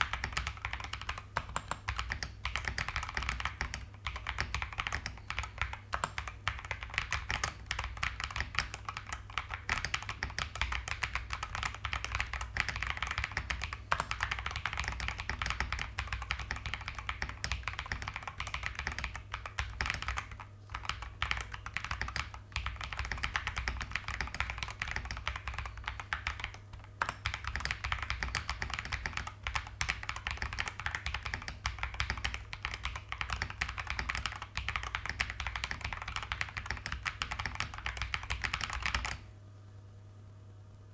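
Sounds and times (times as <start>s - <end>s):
fast typing on mechanical keyboard: 0.0s - 39.3s.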